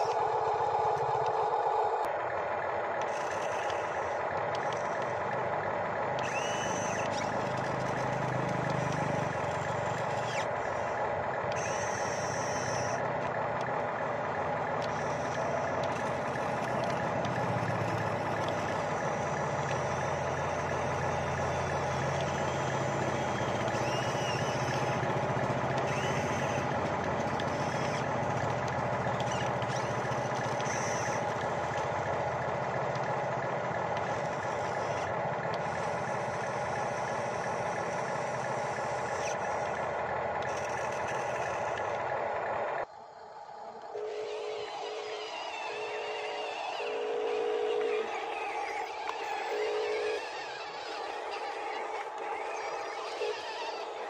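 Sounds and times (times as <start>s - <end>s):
heavy machinery engine drone: 0.0s - 54.0s.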